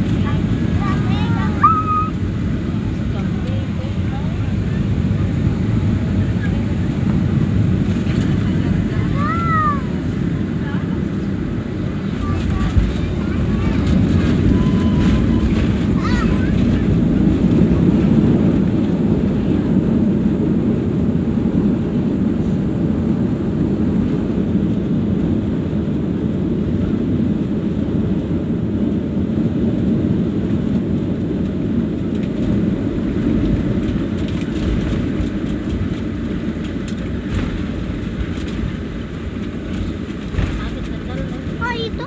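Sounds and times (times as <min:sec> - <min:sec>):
airliner engine and airflow rush: 0:00.0 - 0:42.0.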